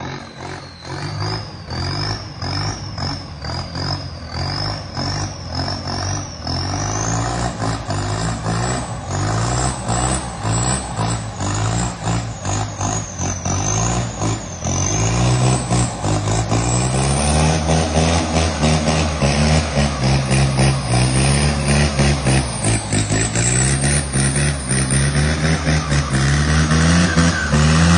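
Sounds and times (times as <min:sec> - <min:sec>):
vehicle engine revving: 0:00.0 - 0:27.9.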